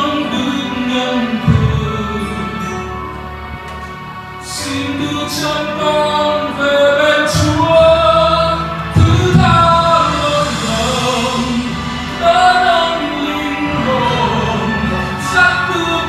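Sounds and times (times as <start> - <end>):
man singing into a microphone: 0.0 - 3.3, 4.4 - 16.0
backing track with bass hits: 0.0 - 16.0.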